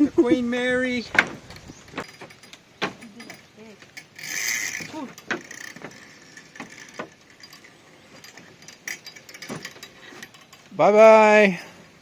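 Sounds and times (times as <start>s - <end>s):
raft clicks and knocks: 0.9s - 10.8s.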